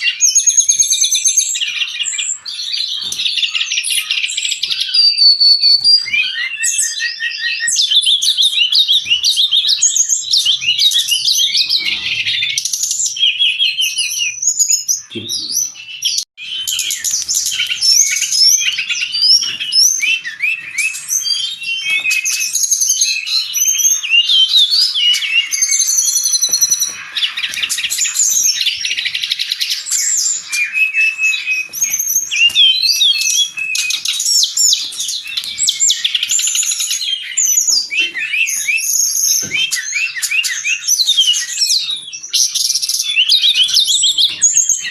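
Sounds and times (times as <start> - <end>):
bird song with chirps and trills: 0.0 - 44.9.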